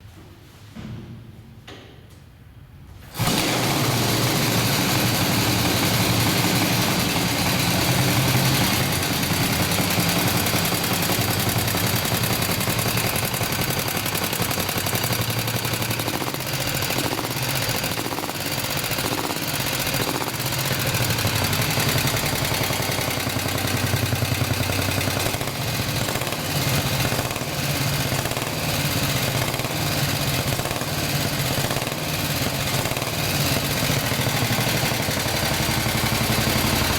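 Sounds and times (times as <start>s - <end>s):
single-cylinder engine running: 3.1s - 36.9s.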